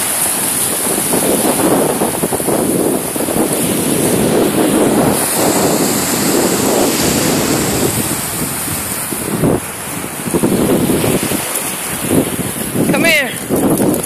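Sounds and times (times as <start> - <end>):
small waves breaking on beach: 0.0 - 14.0
wind buffeting microphone: 0.0 - 14.0.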